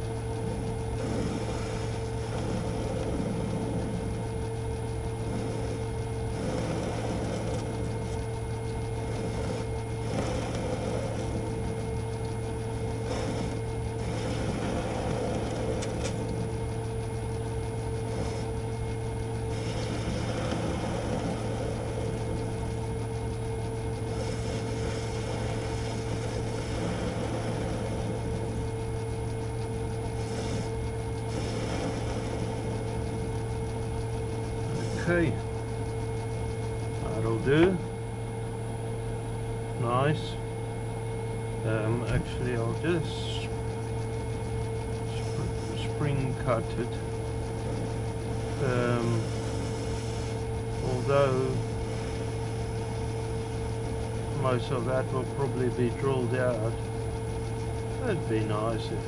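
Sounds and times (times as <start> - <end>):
cutting tool scraping metal: 0.0 - 37.8, 41.6 - 59.0
lathe motor and gear hum: 0.0 - 59.0.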